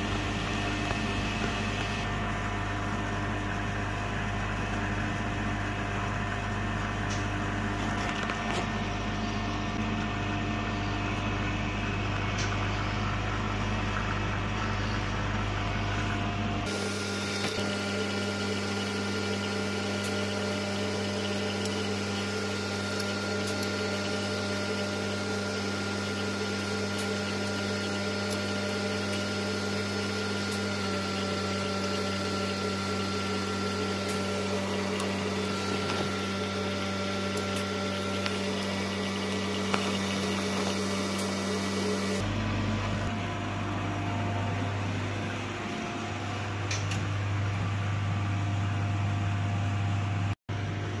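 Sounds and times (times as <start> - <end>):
lab equipment humming: 0.0 - 51.0.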